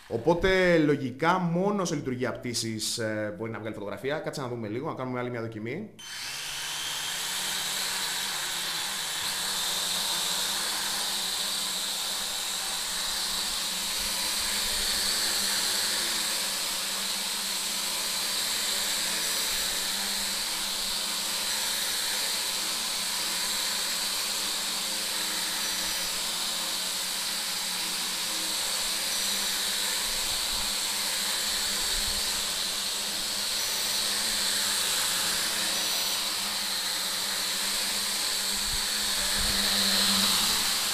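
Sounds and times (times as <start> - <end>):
toy drone propellers whirring: 6.0 - 40.9.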